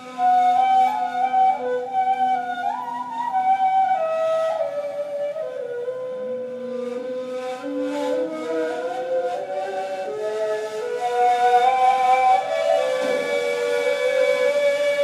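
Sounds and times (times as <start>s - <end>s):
reed flutes playing duet: 0.0s - 15.0s.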